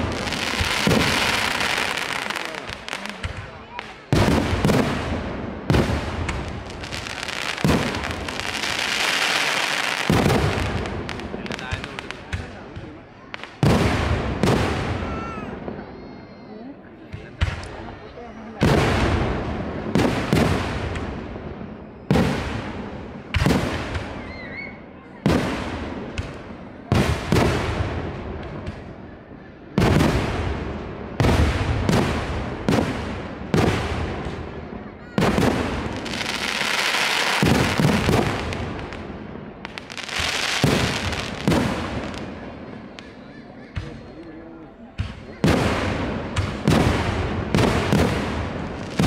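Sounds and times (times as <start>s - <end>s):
fireworks bursting: 0.0s - 16.0s, 17.0s - 49.0s.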